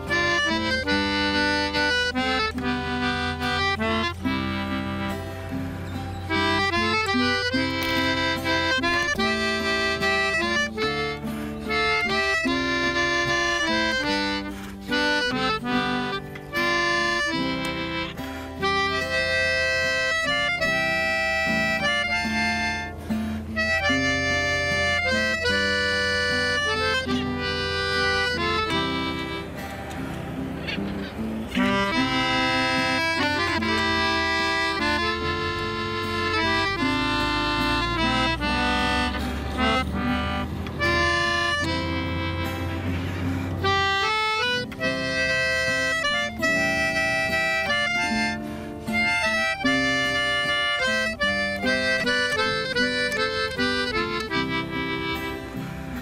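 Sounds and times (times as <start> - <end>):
reed-like melody: 0.0 - 56.0.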